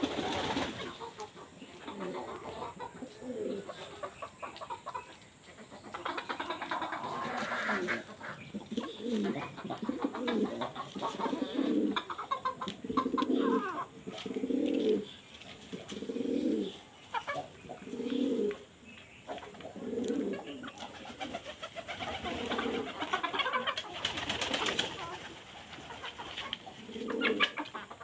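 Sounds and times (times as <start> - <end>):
bird cooing: 0.0 - 4.2, 6.0 - 18.7, 19.4 - 26.0, 26.7 - 27.8.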